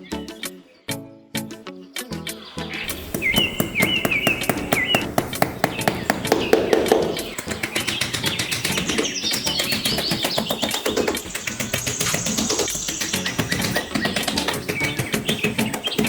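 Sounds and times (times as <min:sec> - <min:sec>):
background music with quick beat: 0:01.4 - 0:16.0
bird-like chirps: 0:01.9 - 0:16.0.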